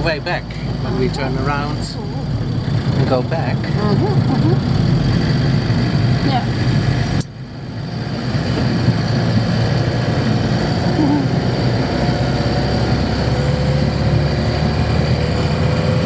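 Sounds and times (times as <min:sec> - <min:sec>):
van engine and road noise: 0:00.0 - 0:16.0.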